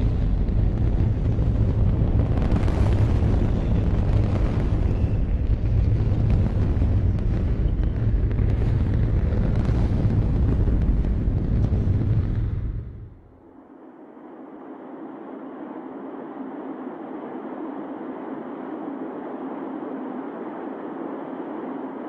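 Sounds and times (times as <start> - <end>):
rocket engines rumbling: 0.0 - 22.0.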